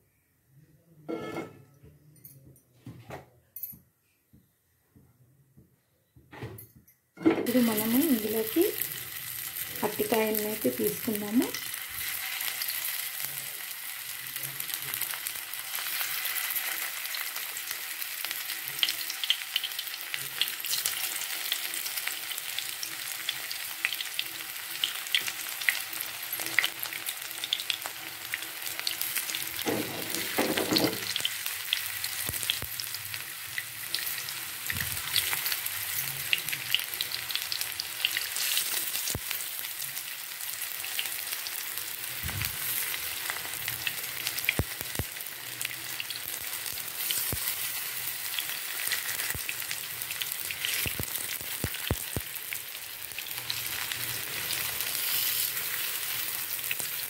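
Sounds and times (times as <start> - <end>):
food sizzling in oil: 7.4 - 57.0.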